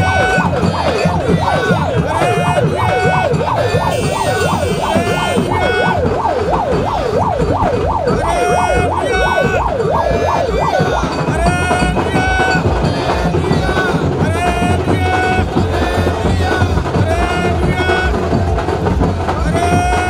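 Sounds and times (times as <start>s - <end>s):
electronic siren yelping: 0.0s - 18.6s
held high siren tone: 0.0s - 18.7s.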